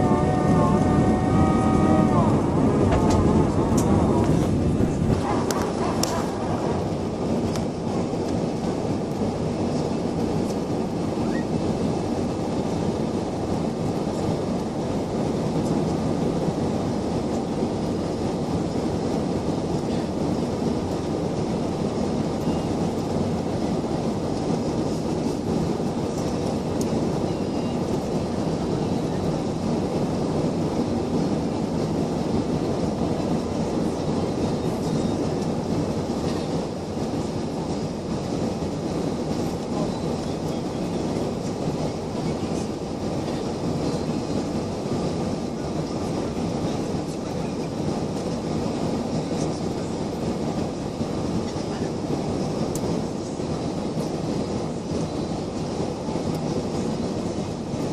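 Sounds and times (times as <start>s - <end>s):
airliner cabin engine drone: 0.0s - 57.9s.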